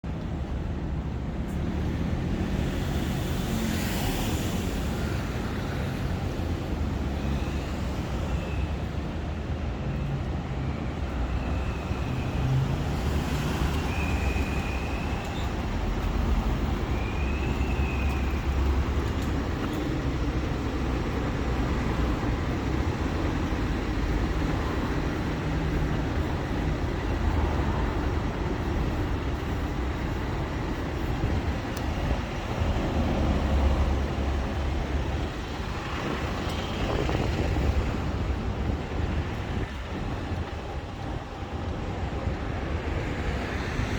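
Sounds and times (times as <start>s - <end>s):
traffic rumble: 0.0s - 43.9s.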